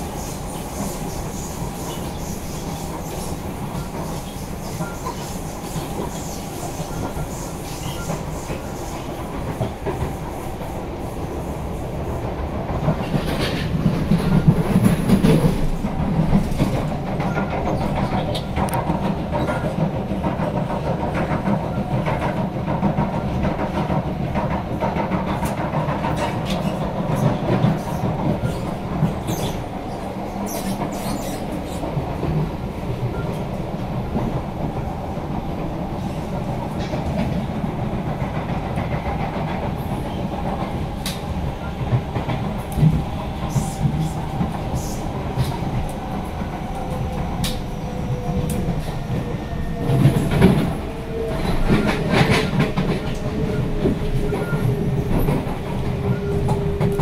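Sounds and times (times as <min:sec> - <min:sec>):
train interior running noise: 0:00.0 - 0:57.0.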